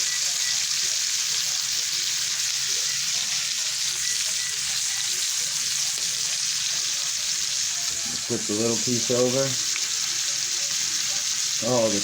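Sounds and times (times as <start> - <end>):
steak sizzling in a frying pan: 0.0 - 12.0.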